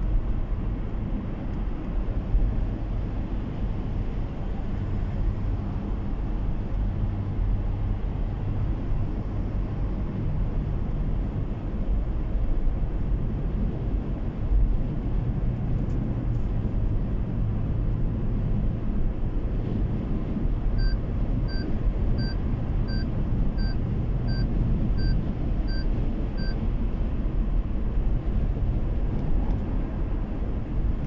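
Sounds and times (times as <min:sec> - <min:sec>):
car tyres and engine rumble: 0:00.0 - 0:31.0.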